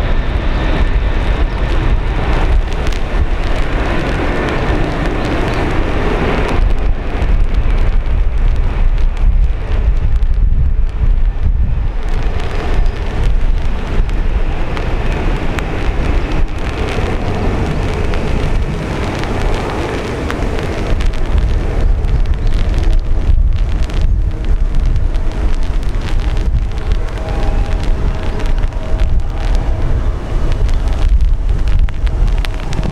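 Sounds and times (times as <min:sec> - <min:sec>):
jet engines rumbling: 0:00.0 - 0:32.9
wind buffeting microphone: 0:00.0 - 0:32.9.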